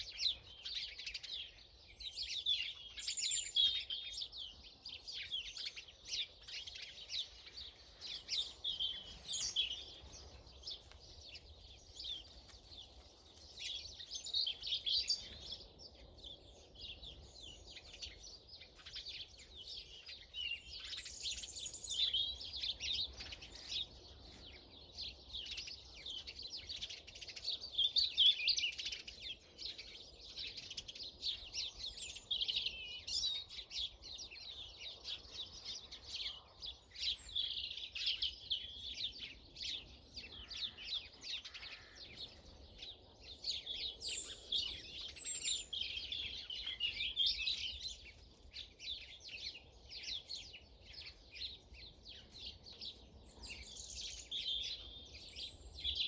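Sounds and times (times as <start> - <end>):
small birds chattering and chirping: 0.0 - 56.0.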